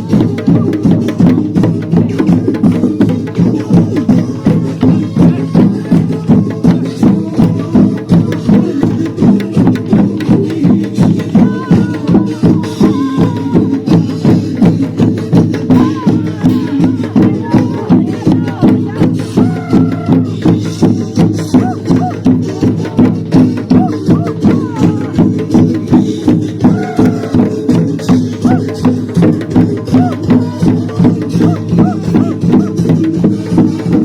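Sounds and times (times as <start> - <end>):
steady drum beat: 0.0 - 34.0.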